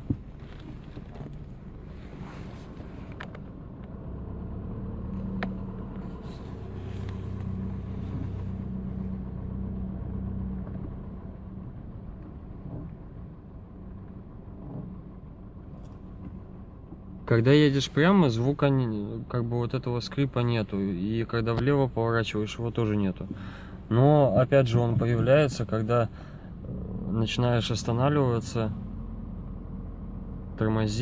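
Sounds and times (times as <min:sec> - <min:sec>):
car driving low hum: 0:00.0 - 0:31.0.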